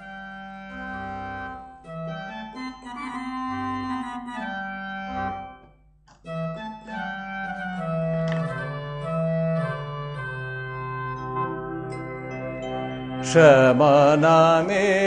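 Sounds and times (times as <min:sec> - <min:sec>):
harmonium playing chords: 0:00.0 - 0:15.0.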